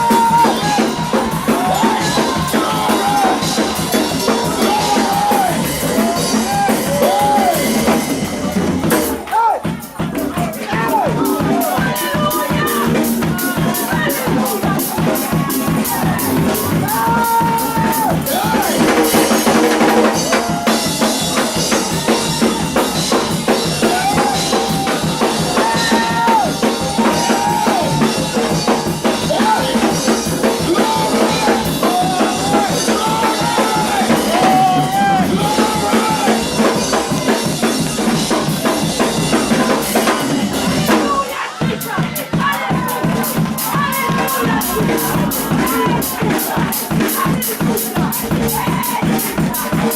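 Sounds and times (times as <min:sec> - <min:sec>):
sliding melody line: 0:00.0 - 0:41.2
drum kit: 0:00.0 - 0:49.9
up-tempo church music: 0:00.0 - 0:49.9.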